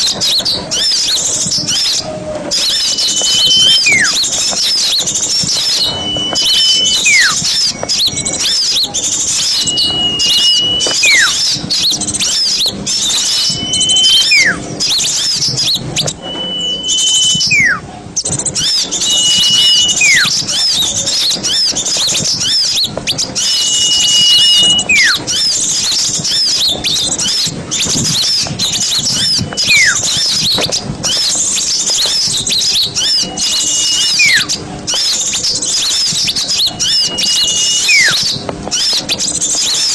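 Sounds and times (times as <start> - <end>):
small birds chattering: 0.0 - 39.9
bird whistle sliding down: 0.2 - 17.8, 18.5 - 39.9.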